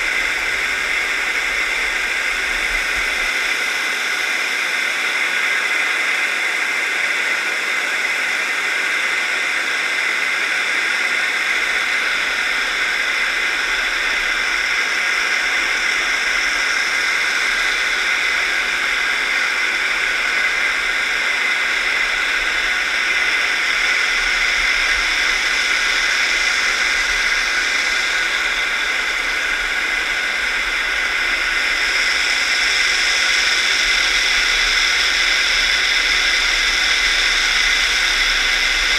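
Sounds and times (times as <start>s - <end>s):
underwater water rushing hiss: 0.0s - 38.9s.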